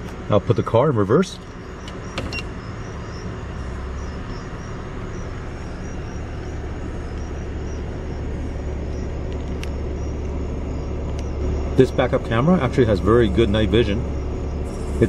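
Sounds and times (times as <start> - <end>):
car engine running at low speed: 0.0 - 15.0.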